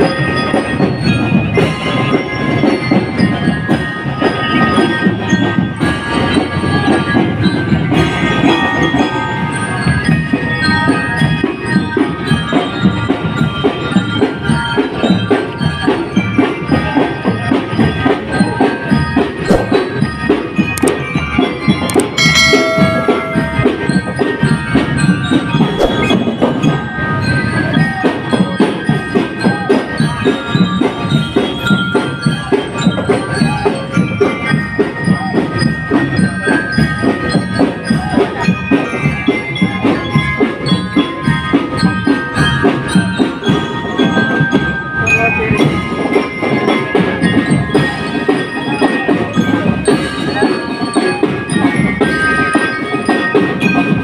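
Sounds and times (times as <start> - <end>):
bell lyres playing melody: 0.0 - 54.0
marching drum beat: 0.0 - 54.0.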